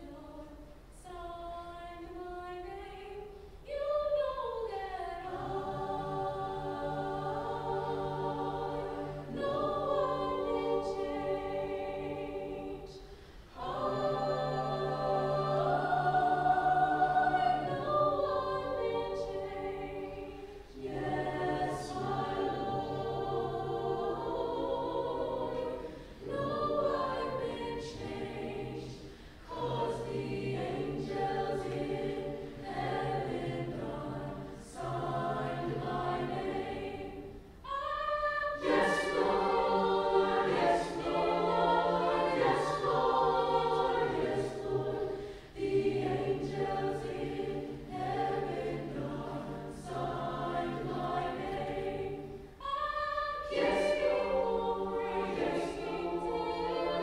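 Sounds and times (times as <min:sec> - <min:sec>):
mixed chorus singing: 0:00.0 - 0:57.0.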